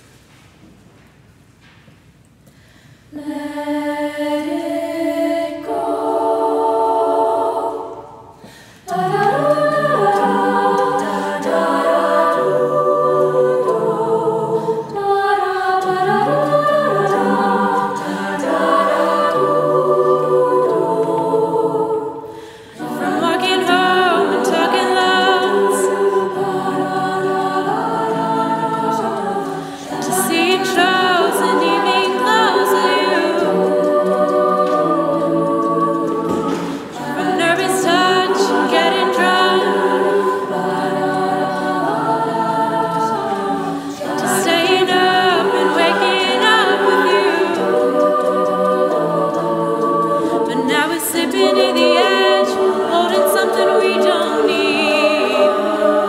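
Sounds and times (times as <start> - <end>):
women singing in harmony: 3.1 - 56.0.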